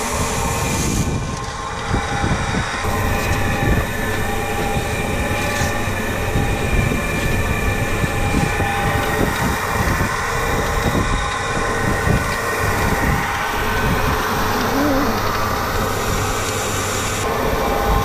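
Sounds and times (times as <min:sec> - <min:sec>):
tractor engine and transmission whine: 0:00.0 - 0:18.0.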